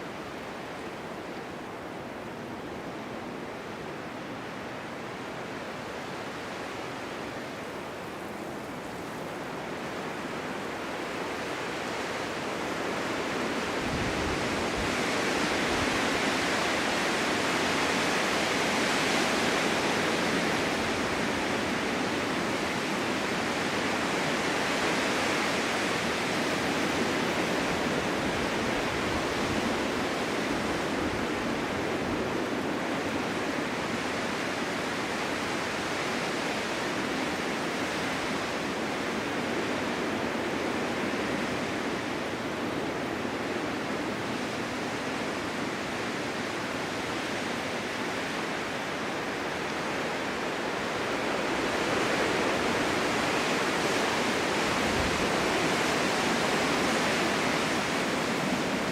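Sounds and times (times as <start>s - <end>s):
strong wind blowing: 7.4s - 58.9s.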